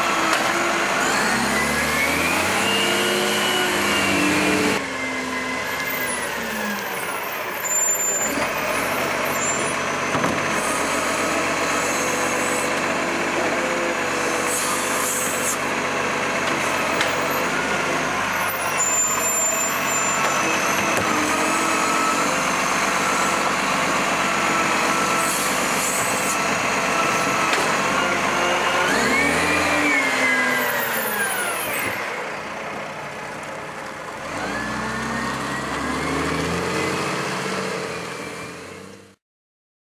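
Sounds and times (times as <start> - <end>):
diesel truck engine revving: 0.0 - 39.2.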